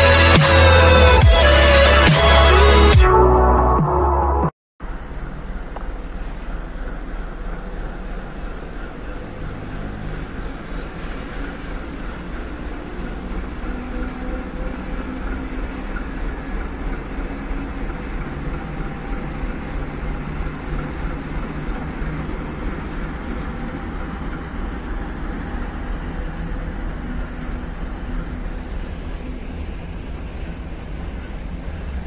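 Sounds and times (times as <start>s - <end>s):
diesel locomotive engine running: 0.0s - 4.0s, 4.8s - 32.0s.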